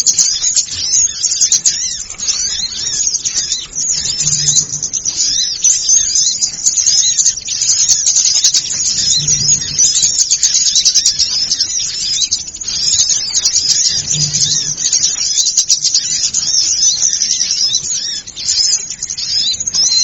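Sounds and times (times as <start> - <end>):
flock of small birds chirping: 0.0 - 20.0.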